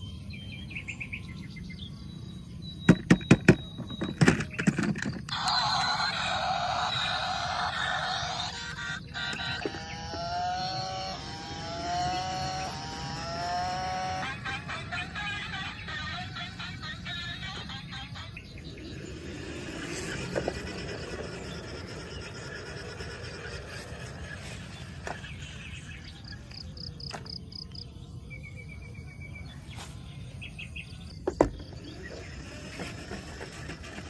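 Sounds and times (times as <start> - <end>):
steady background noise: 0.0 - 34.0.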